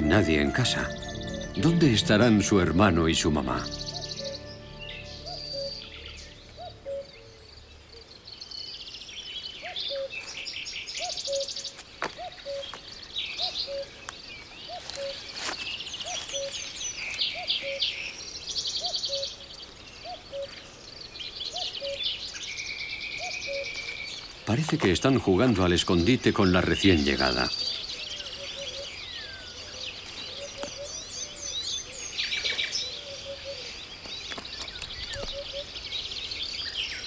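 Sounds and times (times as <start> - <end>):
small birds chirping and trilling: 0.0 - 37.0.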